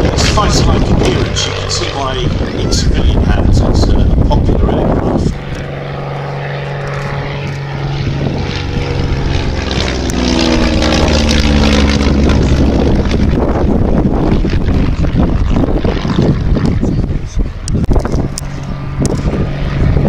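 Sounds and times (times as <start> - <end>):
propeller plane passing low: 0.0 - 20.0.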